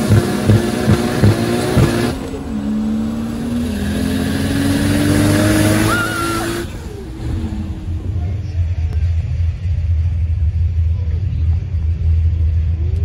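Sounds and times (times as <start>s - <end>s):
low engine rumble: 0.0s - 4.7s, 5.9s - 13.0s
drag racing car engine revving: 0.0s - 13.0s.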